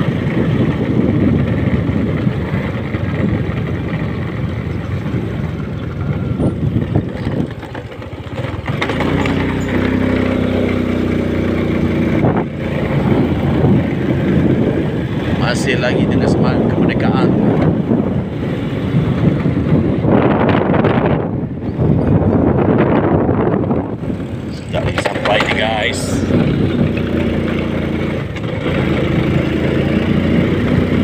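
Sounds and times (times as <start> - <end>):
motorcycle engine hum: 0.0 - 31.0
wind buffeting microphone: 0.0 - 31.0.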